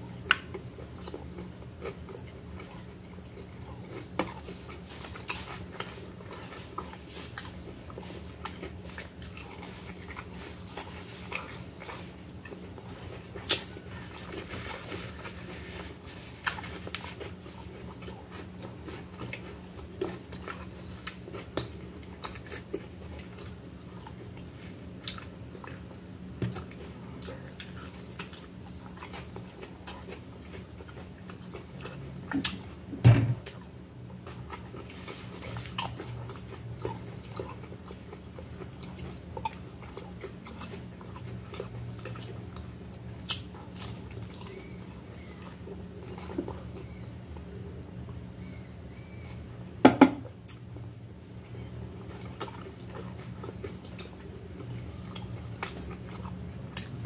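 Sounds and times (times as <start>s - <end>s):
person chewing: 0.0s - 49.5s, 50.2s - 57.0s
low steady hum: 0.0s - 57.0s.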